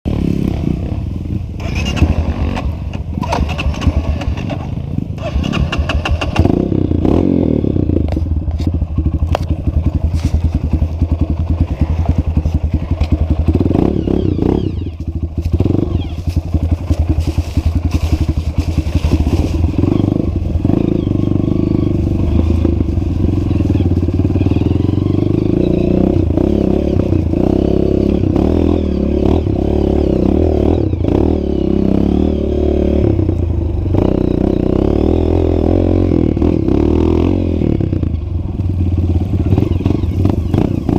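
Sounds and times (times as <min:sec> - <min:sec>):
motorcycle engine revving: 0:00.1 - 0:40.9
engine clattering: 0:01.6 - 0:31.4, 0:35.4 - 0:40.9.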